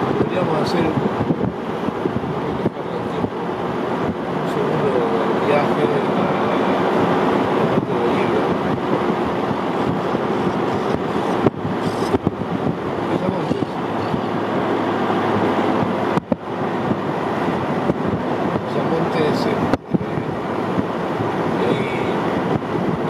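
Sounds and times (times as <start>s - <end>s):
car road noise on highway: 0.0s - 23.0s
wind rushing over microphone: 0.0s - 23.0s.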